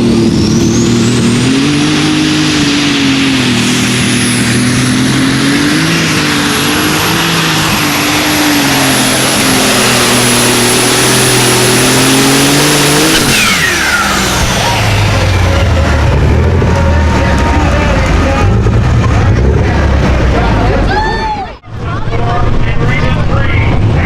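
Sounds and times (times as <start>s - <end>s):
tractor diesel engine at high revs: 0.0s - 21.0s.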